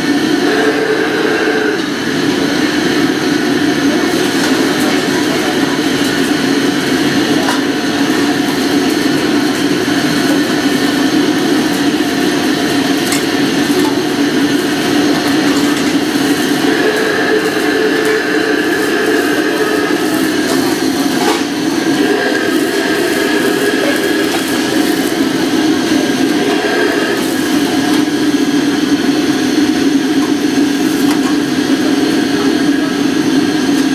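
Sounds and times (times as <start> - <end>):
gas burner roaring: 0.0 - 33.9
kitchen extraction fan: 0.0 - 33.9.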